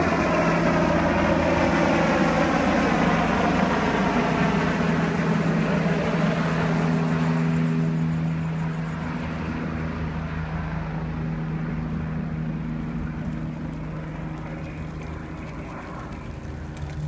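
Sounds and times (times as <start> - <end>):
helicopter flying away: 0.0 - 17.0.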